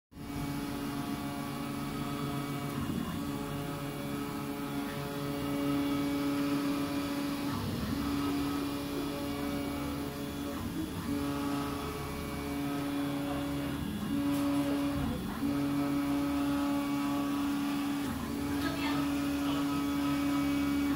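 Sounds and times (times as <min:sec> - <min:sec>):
cooling fans hissing: 0:00.2 - 0:20.9.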